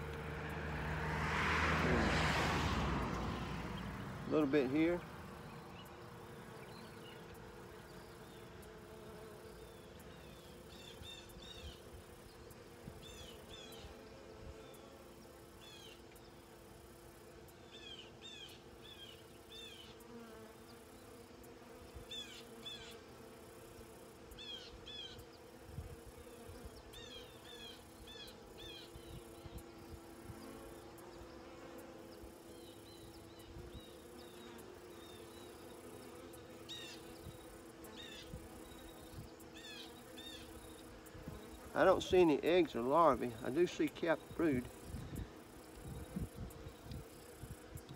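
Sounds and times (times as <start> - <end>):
bees buzzing: 0.0 - 47.9.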